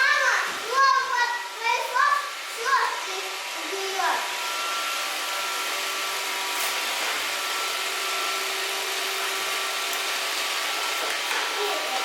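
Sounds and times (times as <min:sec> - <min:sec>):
robot vacuum cleaner running: 0:00.0 - 0:12.0.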